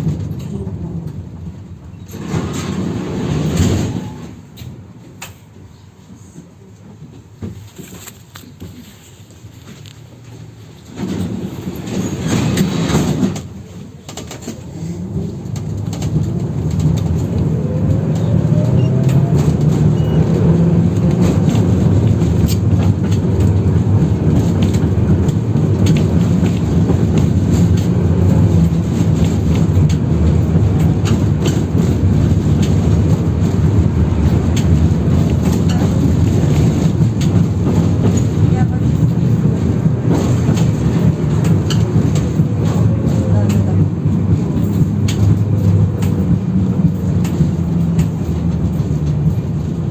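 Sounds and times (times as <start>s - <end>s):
tram running rumble: 0.0s - 49.9s
wheels clicking over rail joints: 6.8s - 49.9s
tram motor whine: 9.5s - 49.9s.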